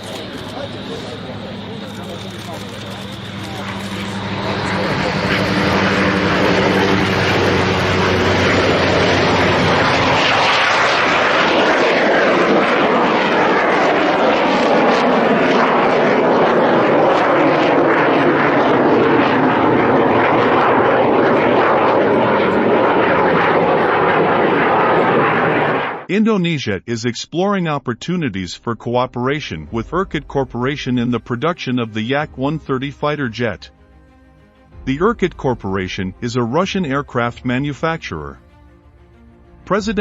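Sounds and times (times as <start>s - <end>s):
jet aircraft engine roaring: 0.0s - 26.1s, 29.5s - 40.0s.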